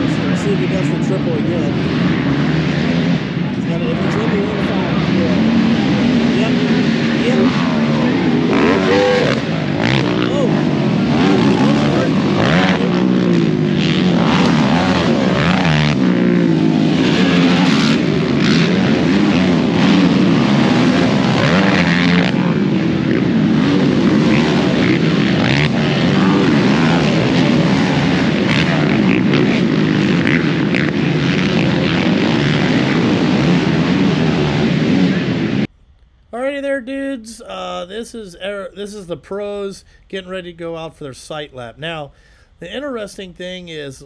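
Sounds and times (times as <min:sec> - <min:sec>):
quad engines revving: 0:00.0 - 0:35.7.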